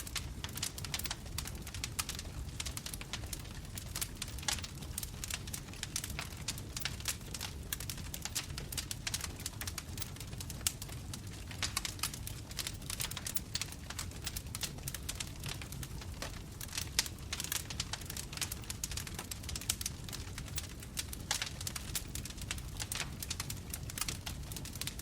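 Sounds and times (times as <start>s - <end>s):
bonfire crackling and popping: 0.0s - 25.0s
low rumble of flames: 0.0s - 25.0s.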